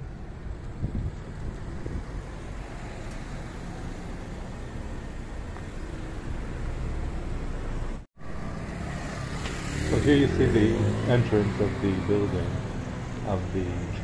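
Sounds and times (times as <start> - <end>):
cars passing on road: 0.0 - 14.0.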